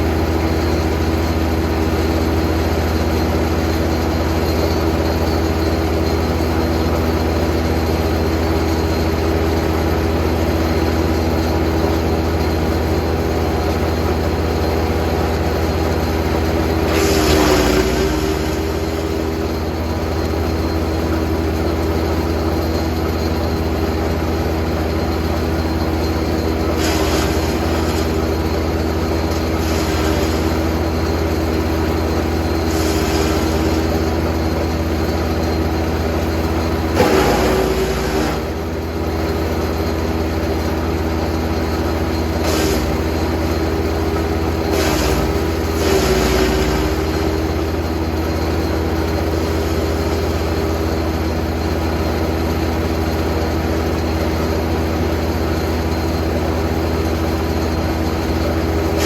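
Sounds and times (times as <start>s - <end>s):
wood chipper running: 0.0s - 59.0s.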